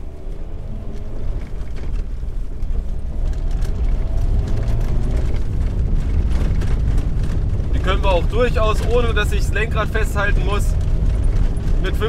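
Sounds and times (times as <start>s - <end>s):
tyres rumbling on gravel: 0.0s - 12.0s
stones ticking: 0.3s - 12.0s.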